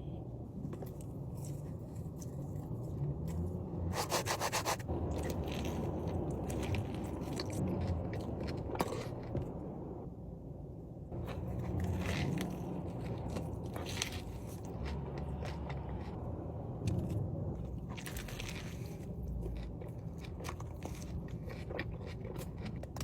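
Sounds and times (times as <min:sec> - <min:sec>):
chewing and mouth noises: 0:00.7 - 0:09.5, 0:11.2 - 0:23.0.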